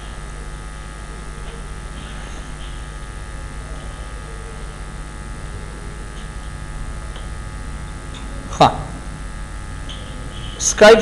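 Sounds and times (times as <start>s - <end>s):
electrical hum and buzz: 0.0s - 11.0s.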